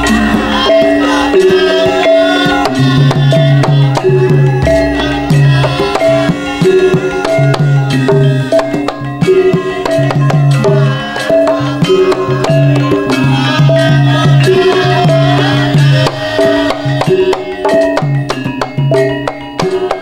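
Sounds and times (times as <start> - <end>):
gamelan music: 0.0 - 20.0
hand drum strokes: 0.0 - 20.0.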